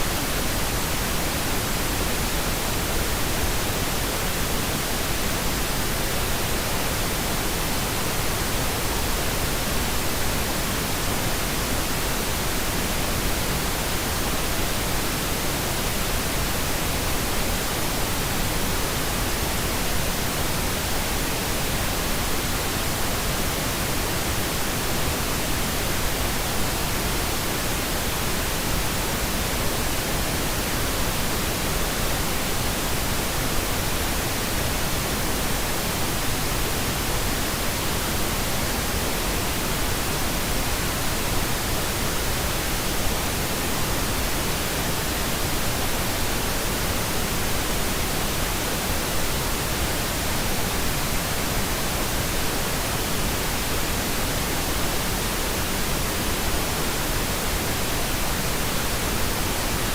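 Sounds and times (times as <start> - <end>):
steady white noise: 0.0 - 59.9.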